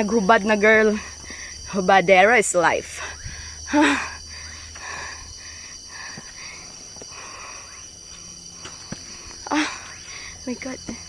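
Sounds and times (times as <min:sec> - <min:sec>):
faint high hum: 0:00.0 - 0:11.0.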